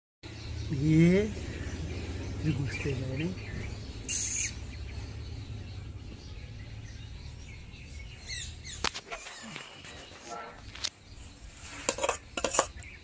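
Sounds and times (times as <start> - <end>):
bird chirps: 0.2 - 13.0.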